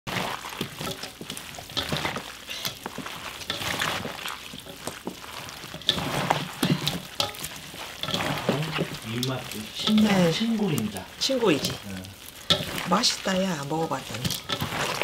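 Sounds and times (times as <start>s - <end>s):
wet squelching of leaves: 0.1s - 15.0s.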